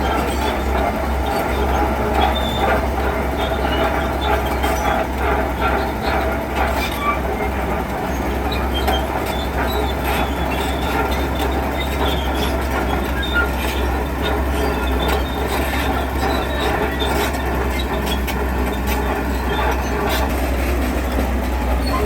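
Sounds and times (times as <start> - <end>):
heavy diesel rumble: 0.0 - 22.0
steel tracks clanking and squealing: 0.0 - 22.0.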